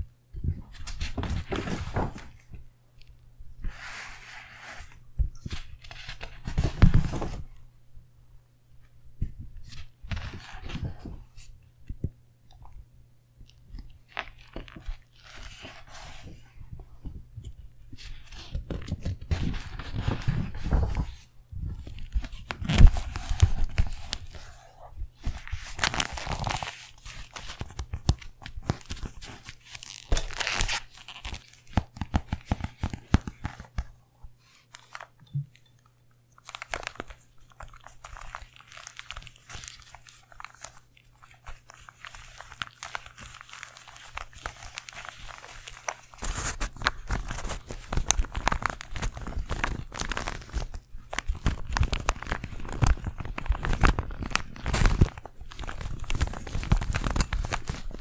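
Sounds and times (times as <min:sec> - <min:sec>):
book cover being handled: 0:00.4 - 0:02.6, 0:03.6 - 0:07.5, 0:14.1 - 0:35.1, 0:38.1 - 0:58.0.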